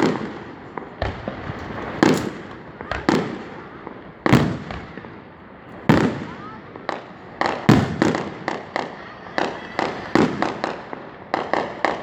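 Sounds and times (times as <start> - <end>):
fireworks shells bursting: 0.0 - 12.0.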